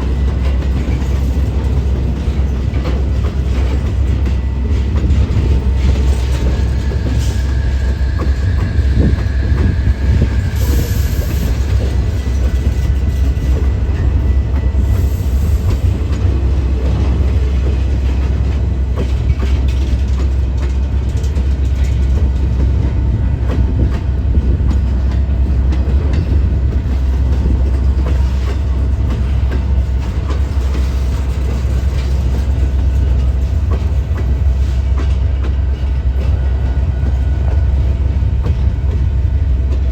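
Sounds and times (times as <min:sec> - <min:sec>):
train rumbling past: 0:00.0 - 0:39.9
wheels clicking on rails: 0:00.0 - 0:39.9.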